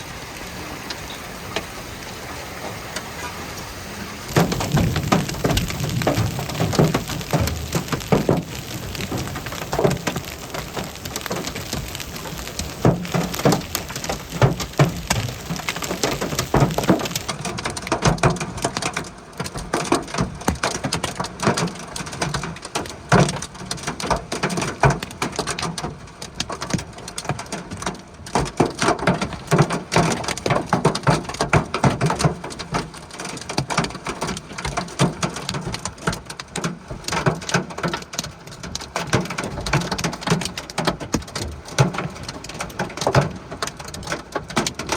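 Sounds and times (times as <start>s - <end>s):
steady rain: 0.0s - 44.9s
hailstones striking hard surfaces: 4.3s - 44.9s.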